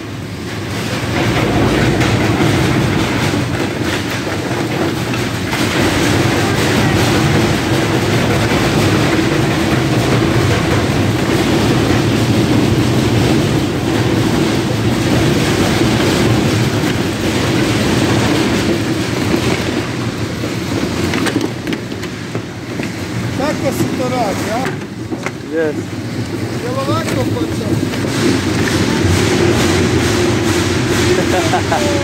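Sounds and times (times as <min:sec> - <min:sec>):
constant low drone: 0:00.0 - 0:32.0
conveyor machinery running: 0:00.0 - 0:32.0
machinery rattle: 0:00.0 - 0:32.0.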